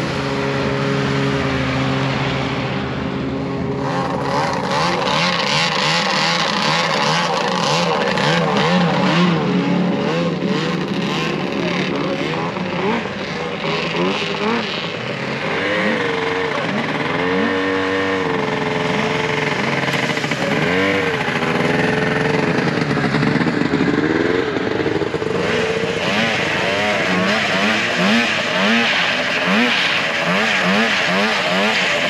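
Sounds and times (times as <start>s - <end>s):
snowmobile engines revving: 0.0s - 32.0s.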